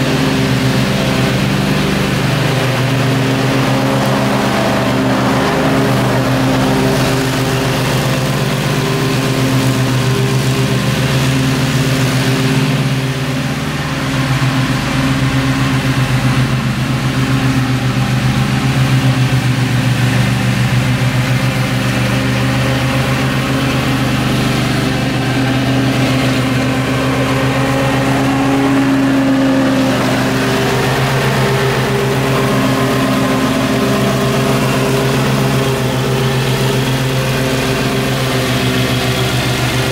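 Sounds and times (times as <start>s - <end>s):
riding mower engine cutting grass: 0.0s - 39.9s.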